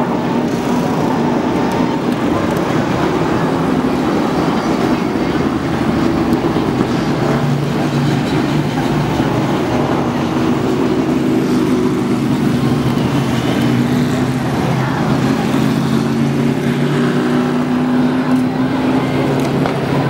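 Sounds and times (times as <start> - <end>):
race car engines running: 0.0 - 20.0.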